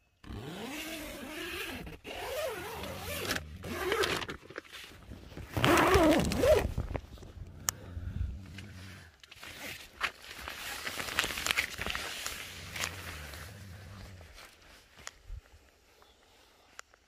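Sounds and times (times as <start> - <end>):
tent zipper being pulled: 0.2 - 14.6.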